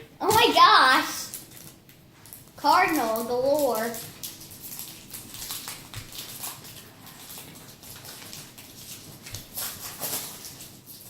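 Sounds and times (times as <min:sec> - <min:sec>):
card packs rustling and crinkling: 0:01.3 - 0:11.0.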